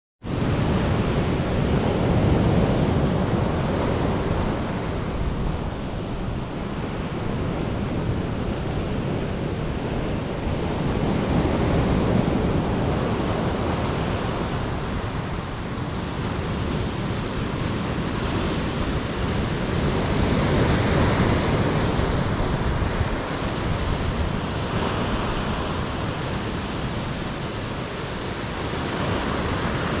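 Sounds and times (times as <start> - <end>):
wind rumbling on microphone: 0.2 - 30.0
stormy surf breaking: 0.3 - 30.0.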